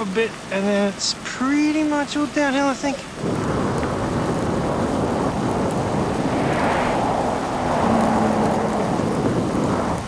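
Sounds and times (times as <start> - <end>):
vehicle passing on wet road: 0.0 - 10.0
steady rushing background: 1.8 - 10.0.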